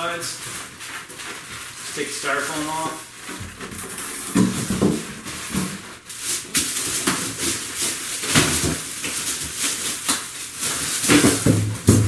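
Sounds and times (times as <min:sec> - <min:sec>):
styrofoam rubbing and squeaking: 0:00.0 - 0:12.0.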